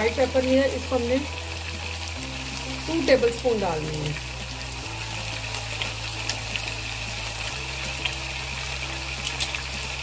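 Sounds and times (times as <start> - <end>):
chicken sizzling in oil: 0.0 - 10.0
soft background music: 0.0 - 10.0.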